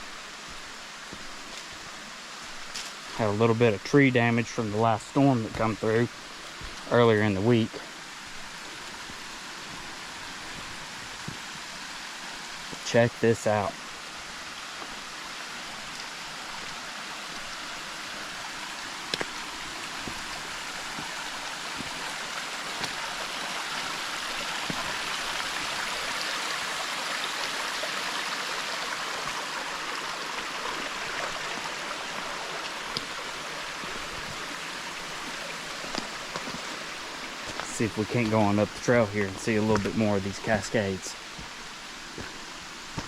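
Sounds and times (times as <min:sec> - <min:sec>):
water rushing over falls: 0:00.0 - 0:43.0.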